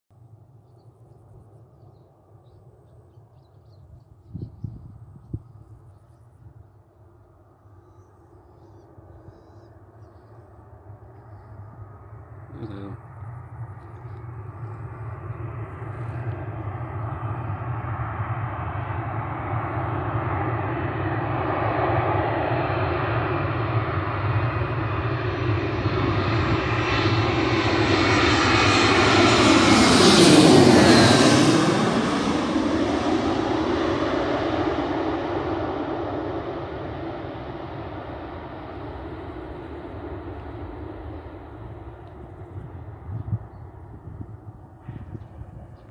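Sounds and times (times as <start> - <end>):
jet airliner passing overhead: 0.2 - 45.9.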